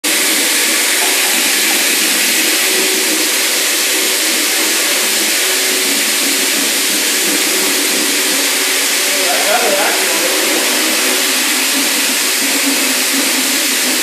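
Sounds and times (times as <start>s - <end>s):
floor buffer hissing on wet concrete: 0.0s - 14.0s.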